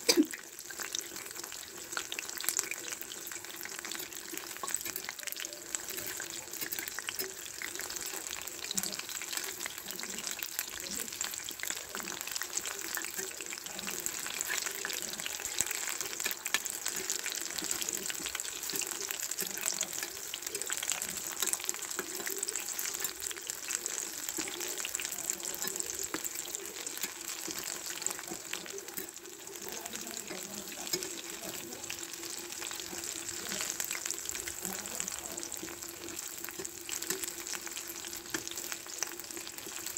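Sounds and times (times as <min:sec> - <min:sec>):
food deep-frying in hot oil: 0:00.0 - 0:39.9.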